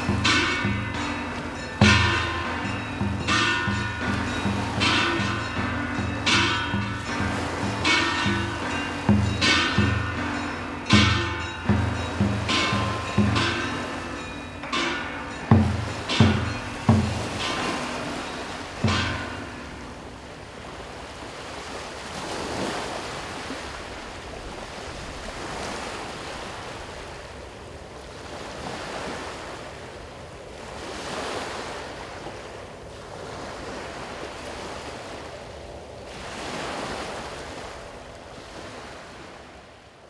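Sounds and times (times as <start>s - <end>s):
sea waves washing on shore: 0.0s - 40.0s.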